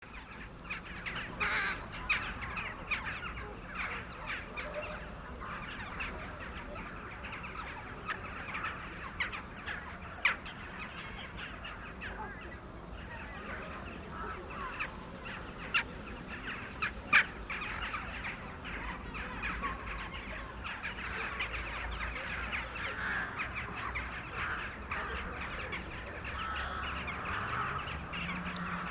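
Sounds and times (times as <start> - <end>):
crows cawing: 0.1 - 12.6, 13.2 - 28.9.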